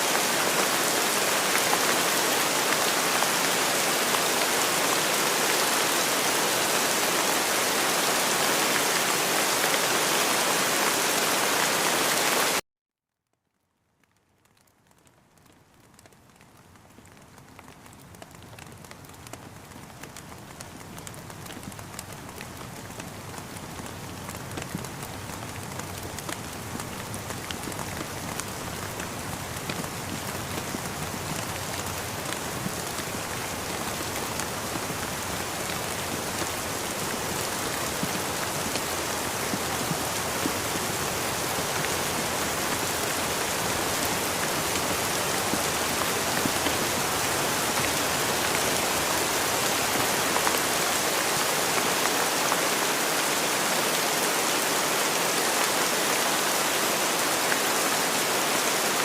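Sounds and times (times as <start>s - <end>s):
rain pattering: 0.0s - 12.6s, 13.3s - 59.0s.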